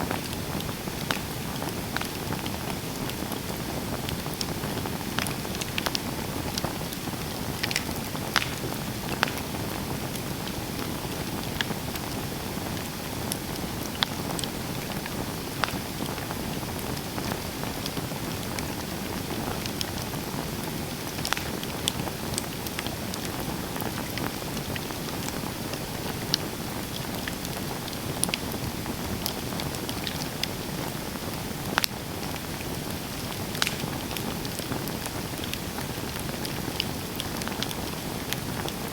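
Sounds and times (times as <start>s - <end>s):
campfire hissing: 0.0s - 38.9s
fire crackles and pops: 0.0s - 38.9s.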